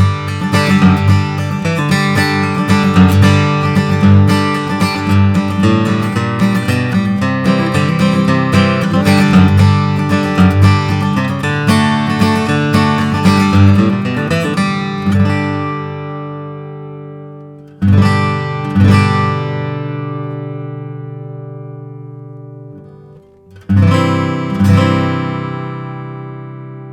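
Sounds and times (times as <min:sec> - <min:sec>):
acoustic guitar playing: 0:00.0 - 0:26.9.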